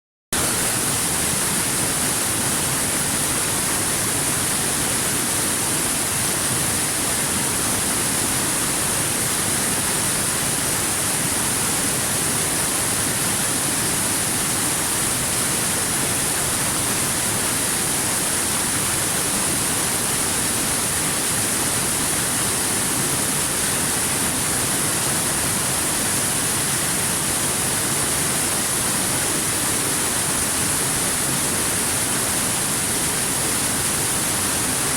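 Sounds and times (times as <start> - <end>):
river water rushing over rocks: 0.4 - 34.9.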